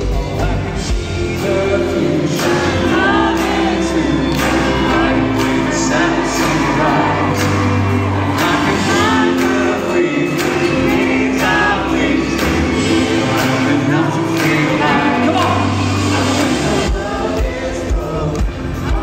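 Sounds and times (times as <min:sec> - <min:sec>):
live pop band playing: 0:00.0 - 0:19.0
man singing into microphone: 0:00.0 - 0:19.0
steady drum beat: 0:00.0 - 0:19.0.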